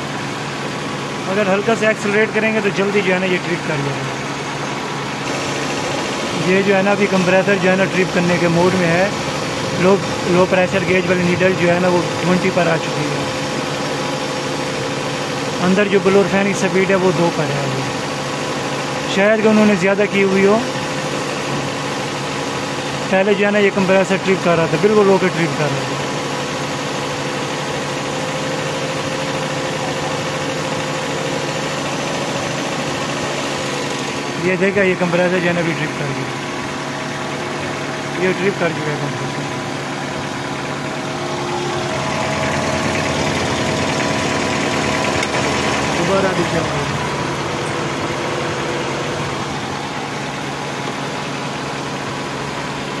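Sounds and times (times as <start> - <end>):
car engine idling: 0.0 - 53.0
electric fan running: 0.0 - 53.0
faint steady compressor tone: 0.0 - 53.0.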